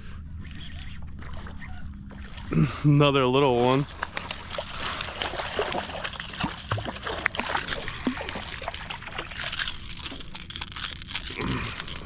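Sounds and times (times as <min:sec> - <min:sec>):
water splashing and trickling: 0:00.6 - 0:12.0.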